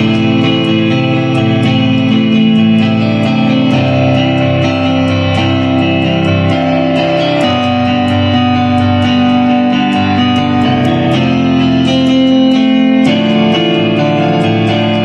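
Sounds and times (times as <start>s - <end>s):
solo guitar playing: 0.0s - 15.0s.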